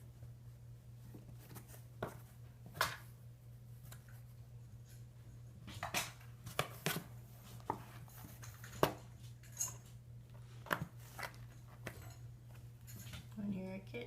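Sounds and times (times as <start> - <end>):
paws and claws on hard floor: 1.0 - 13.4.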